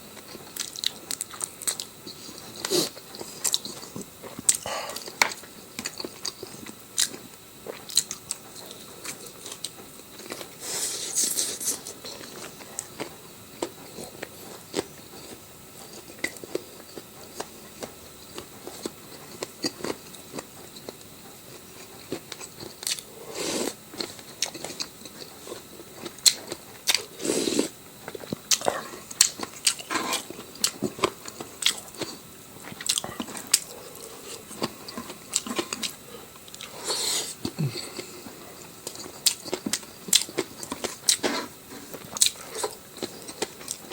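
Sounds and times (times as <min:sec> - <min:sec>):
chewing and crunching: 0:00.1 - 0:43.9.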